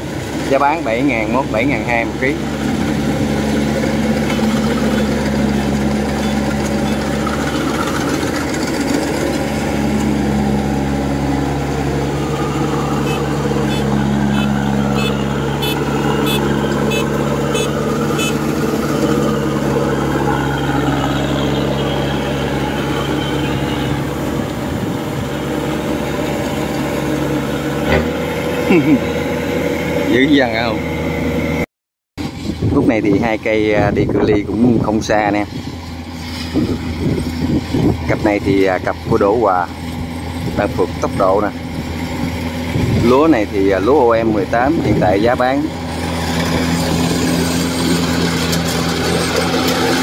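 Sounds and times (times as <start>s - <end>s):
combine harvester diesel engine: 0.0s - 31.6s, 32.2s - 50.0s.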